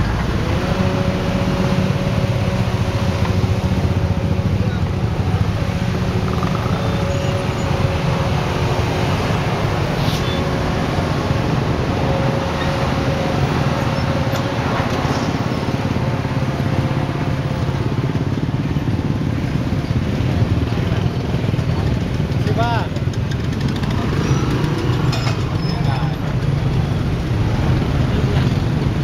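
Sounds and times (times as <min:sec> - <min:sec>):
city road traffic rumble: 0:00.0 - 0:29.0.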